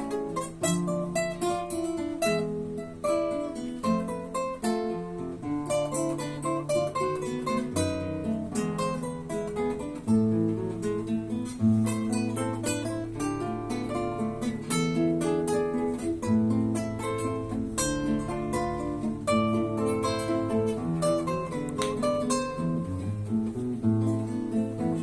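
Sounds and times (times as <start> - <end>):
classical guitar duet: 0.0 - 25.0.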